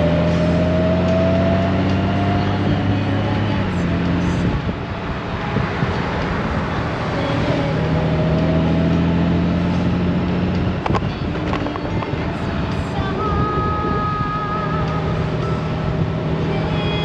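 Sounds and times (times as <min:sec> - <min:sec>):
motorcycle engine cruising: 0:00.0 - 0:17.0
road noise: 0:00.0 - 0:17.0
wind noise: 0:01.7 - 0:08.4, 0:09.8 - 0:17.0.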